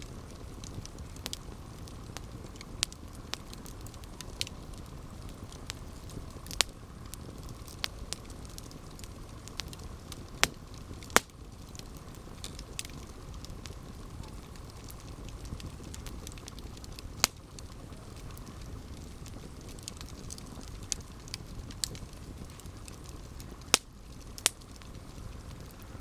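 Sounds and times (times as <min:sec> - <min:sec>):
burning wood crackling and popping: 0:00.0 - 0:26.0
flames rumbling: 0:00.0 - 0:26.0.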